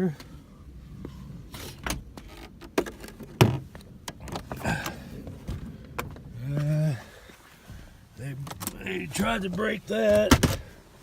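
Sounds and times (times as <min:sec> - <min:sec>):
rustling: 0:00.3 - 0:11.0.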